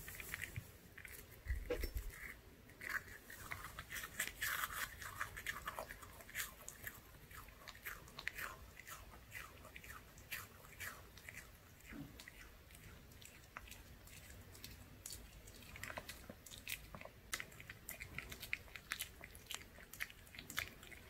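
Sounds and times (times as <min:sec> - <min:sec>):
dog chewing crispy treat: 0:00.1 - 0:21.0.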